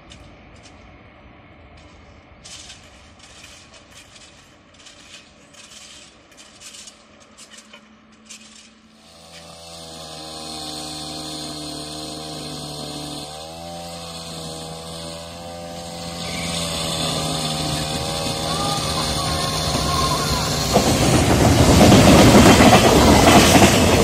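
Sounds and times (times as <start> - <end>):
electric locomotive droning: 0.0 - 24.0
tapping and scraping on rails: 1.7 - 24.0.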